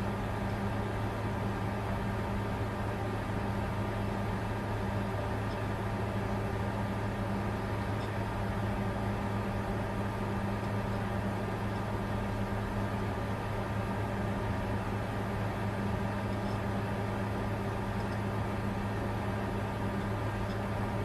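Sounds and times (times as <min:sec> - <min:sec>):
cooling fans whirring: 0:00.0 - 0:21.0
low even hum: 0:00.0 - 0:21.0.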